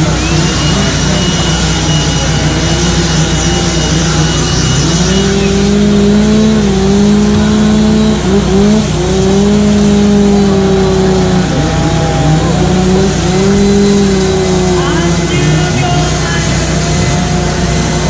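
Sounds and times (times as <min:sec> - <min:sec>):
chainsaw carving wood: 0:00.0 - 0:18.0.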